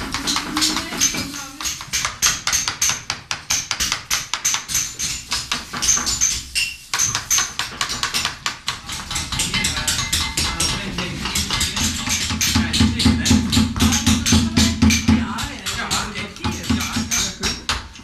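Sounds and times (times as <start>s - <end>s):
mallet striking chisel on stone: 0.0s - 18.0s.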